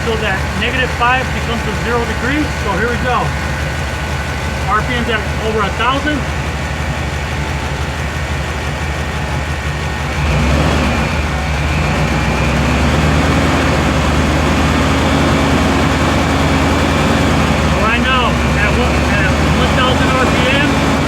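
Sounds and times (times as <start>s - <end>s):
engine fast idle: 0.0s - 21.0s.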